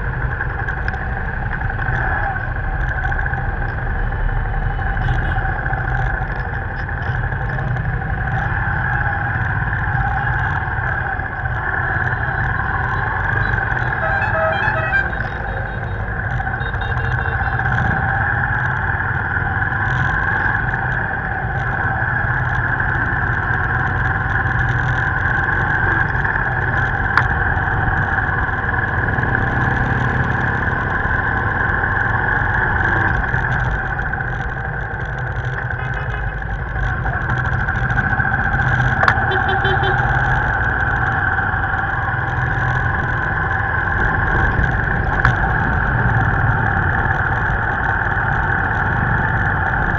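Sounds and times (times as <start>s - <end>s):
motorbike engine drone: 0.0s - 49.9s
road noise: 0.0s - 49.9s.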